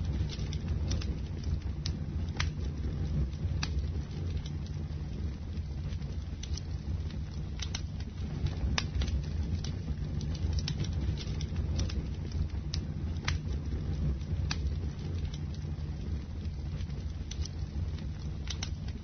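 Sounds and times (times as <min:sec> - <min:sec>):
burning wood crackling and popping: 0:00.0 - 0:19.0
low rumble of flames: 0:00.0 - 0:19.0.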